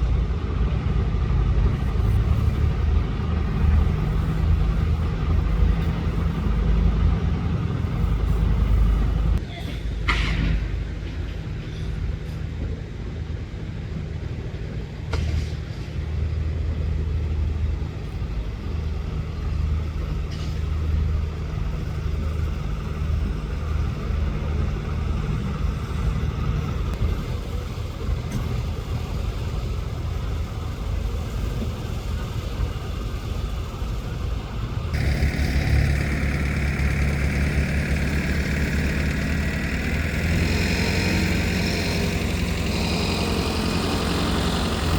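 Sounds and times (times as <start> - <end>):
heavy machinery engine running: 0.0 - 9.4, 10.8 - 44.9.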